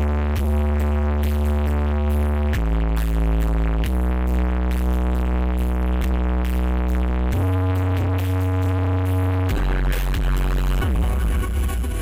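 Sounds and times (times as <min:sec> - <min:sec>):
heavy bass line: 0:00.0 - 0:12.0
loud electronic dance music: 0:00.0 - 0:12.0.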